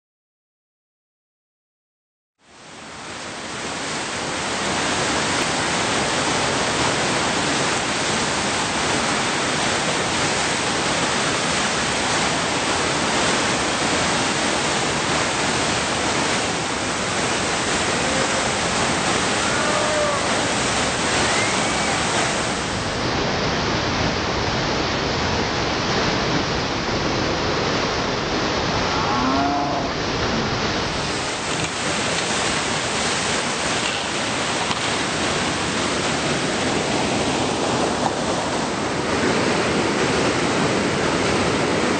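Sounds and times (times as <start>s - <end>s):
rushing whitewater rapid: 2.4s - 41.9s.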